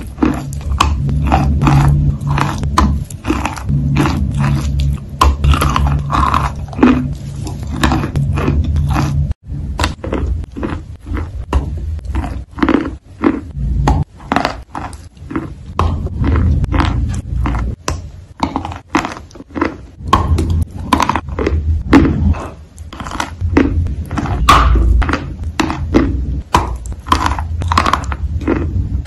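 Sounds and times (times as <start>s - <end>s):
low rumble: 0.0s - 18.9s, 19.9s - 29.0s
crunchy food chewing: 0.0s - 29.0s.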